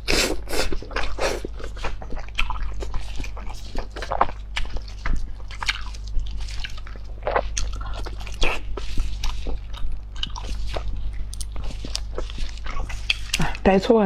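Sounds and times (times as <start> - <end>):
person chewing with smacking noises: 0.0 - 13.8
low steady hum: 0.0 - 14.0.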